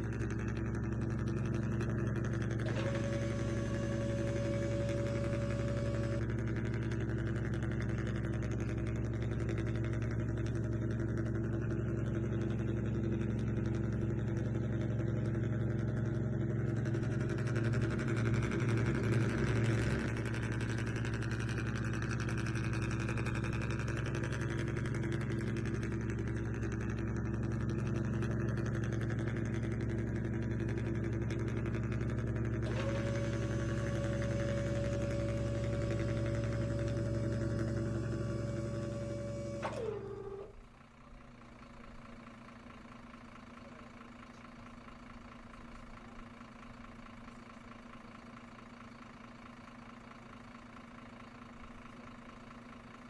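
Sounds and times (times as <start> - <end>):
toy vehicle engine idling: 0.0 - 53.0.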